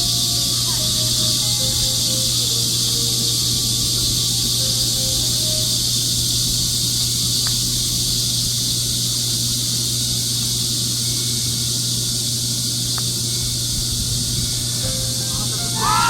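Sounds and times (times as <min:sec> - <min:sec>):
insects chorus: 0:00.0 - 0:16.0
steady low hum: 0:00.0 - 0:16.0.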